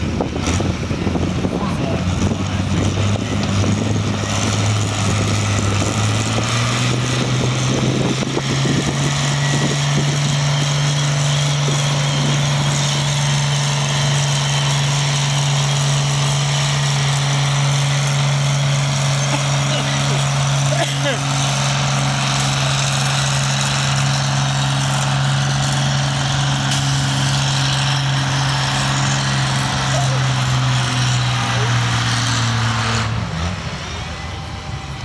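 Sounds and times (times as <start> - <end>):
tractor engine under load: 0.0 - 35.0.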